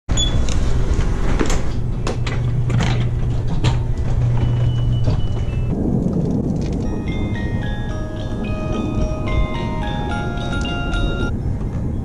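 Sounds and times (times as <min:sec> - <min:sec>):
scooter knocking and clattering: 0:01.0 - 0:11.9.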